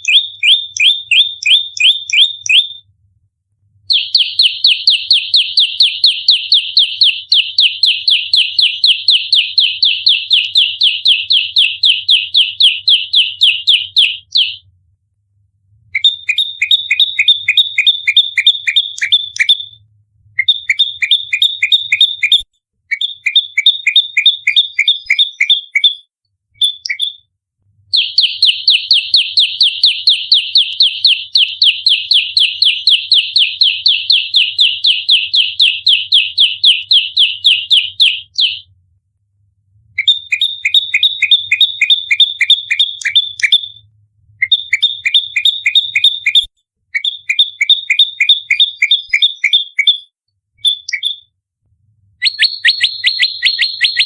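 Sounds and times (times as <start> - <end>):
songbird chirping rapidly: 0.0 - 2.8, 3.9 - 14.6, 15.9 - 19.8, 20.4 - 27.3, 27.9 - 38.6, 40.0 - 43.8, 44.4 - 51.3, 52.2 - 54.0.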